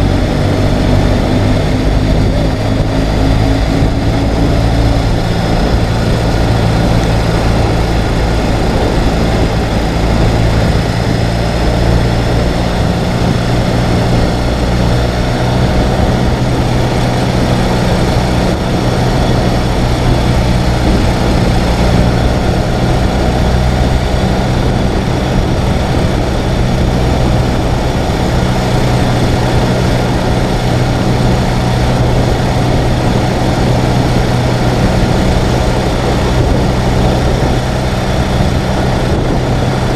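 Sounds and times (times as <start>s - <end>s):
motorcycle engine running: 0.0s - 39.9s
rush of noise: 0.0s - 39.9s.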